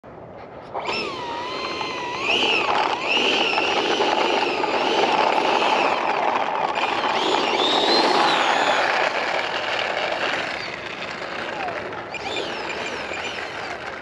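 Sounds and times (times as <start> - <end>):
electric fan whining: 0.0 - 14.0.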